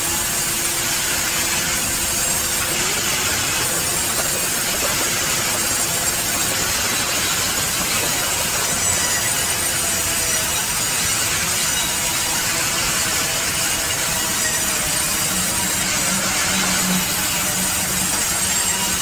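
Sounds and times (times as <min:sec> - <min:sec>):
band saw cutting log: 0:00.0 - 0:19.0.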